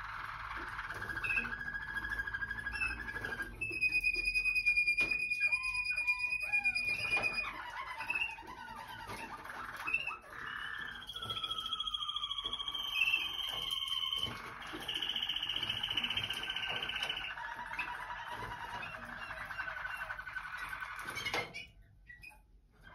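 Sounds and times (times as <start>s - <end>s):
canaries singing: 0.0s - 22.9s.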